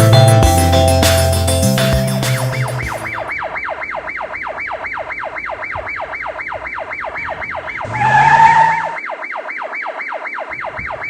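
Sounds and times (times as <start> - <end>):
electronic siren sweeps: 1.5 - 11.0.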